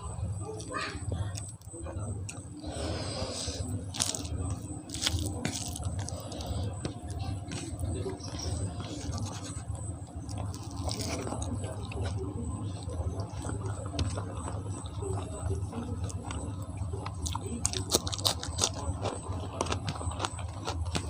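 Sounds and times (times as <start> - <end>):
wet chewing sounds: 0.0 - 21.0.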